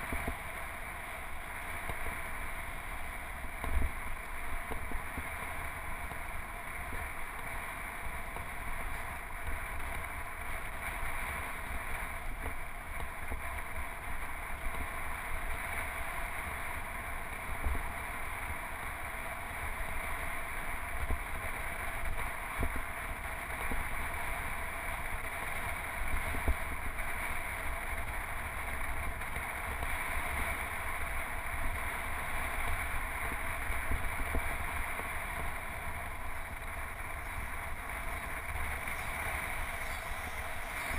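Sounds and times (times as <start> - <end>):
low uneven wind buffeting: 0.0 - 40.9.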